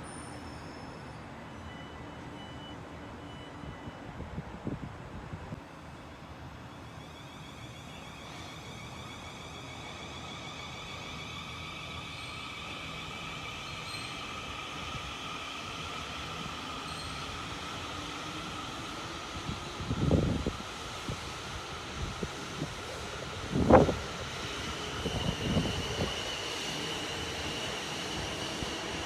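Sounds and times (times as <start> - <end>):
train whine of high tones: 0.0 - 29.0.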